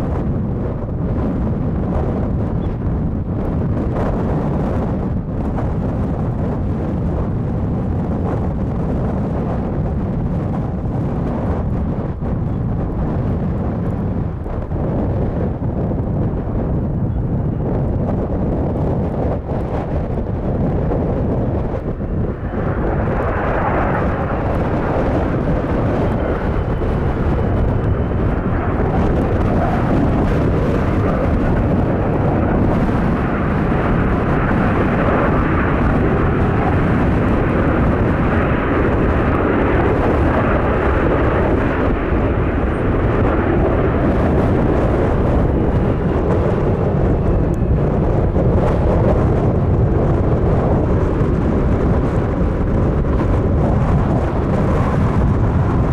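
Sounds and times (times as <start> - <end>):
jet engine roar: 0.0 - 55.9.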